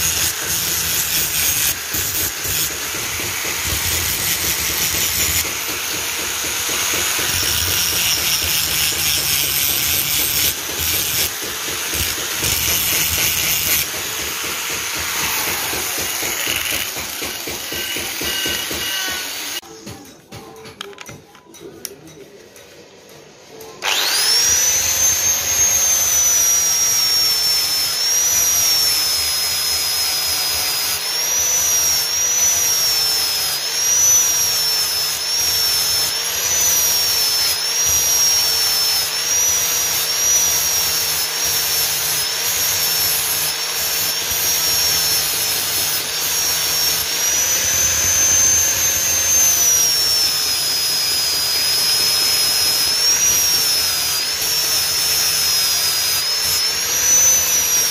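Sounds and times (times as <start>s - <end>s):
angle grinder grinding metal: 0.0s - 19.6s, 23.8s - 57.9s.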